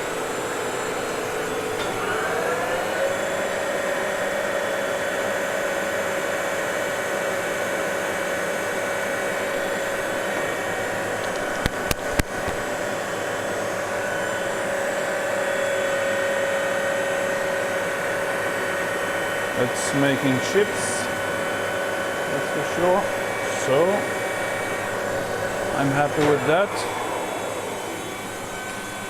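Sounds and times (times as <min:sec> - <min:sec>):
lathe cutting round bar: 0:00.0 - 0:29.0
metal lathe drive whine: 0:00.0 - 0:29.0.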